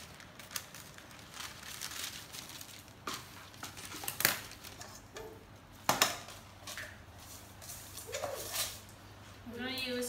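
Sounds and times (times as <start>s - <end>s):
parchment paper rustling: 0.0s - 5.4s, 6.3s - 9.0s.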